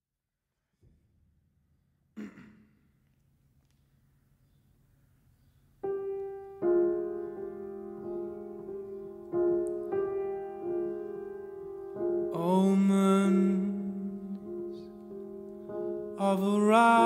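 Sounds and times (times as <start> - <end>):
slow quiet piano: 3.1 - 17.0.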